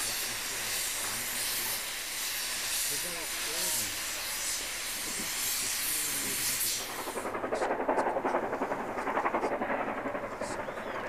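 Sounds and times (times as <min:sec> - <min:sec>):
steam hissing: 0:00.0 - 0:11.0
steam locomotive exhaust beats: 0:00.0 - 0:11.0.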